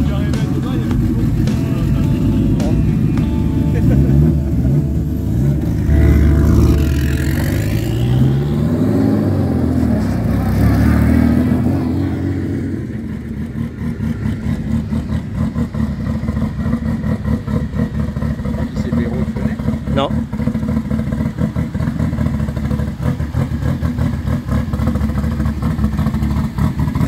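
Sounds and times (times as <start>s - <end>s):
car engine idling unevenly: 0.0s - 27.0s
race car engines revving: 0.0s - 27.0s.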